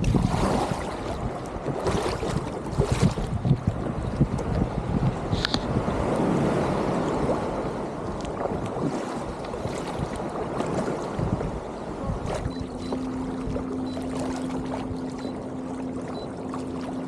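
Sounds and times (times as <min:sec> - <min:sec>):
wind buffeting microphone: 0:00.0 - 0:15.4
small waves: 0:00.0 - 0:17.0
water sloshing around kayak: 0:00.0 - 0:17.0.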